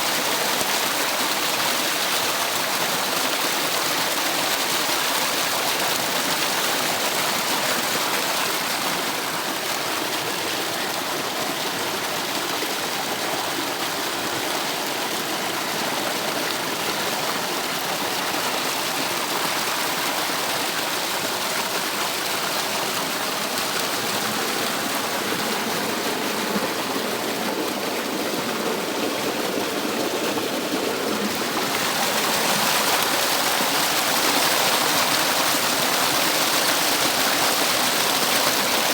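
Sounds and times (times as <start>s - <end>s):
stream water rushing and splashing: 0.0s - 38.9s.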